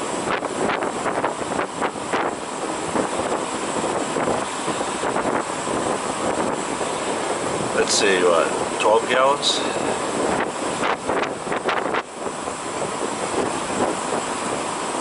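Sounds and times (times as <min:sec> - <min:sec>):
diesel pump running: 0:00.0 - 0:15.0
fuel rushing through nozzle: 0:00.0 - 0:15.0
wind buffeting microphone: 0:00.0 - 0:15.0.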